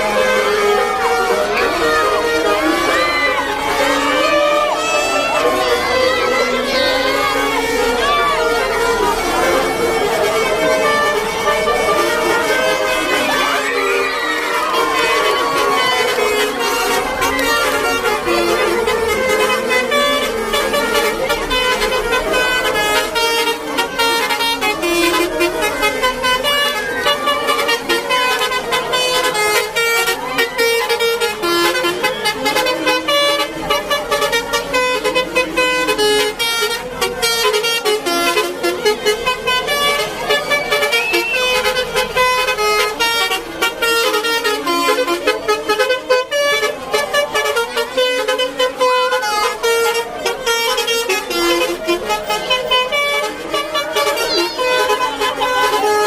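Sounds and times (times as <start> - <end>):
multi-tone bus horn melody: 0.0 - 56.0.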